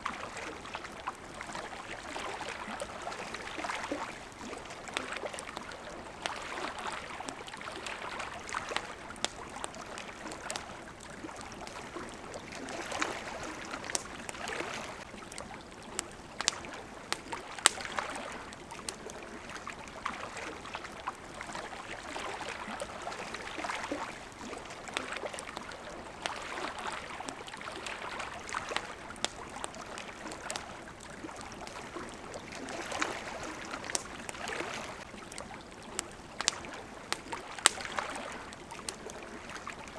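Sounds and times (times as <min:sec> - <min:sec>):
campfire crackling and popping: 0:00.0 - 0:39.9
water lapping at a shore: 0:00.0 - 0:39.9.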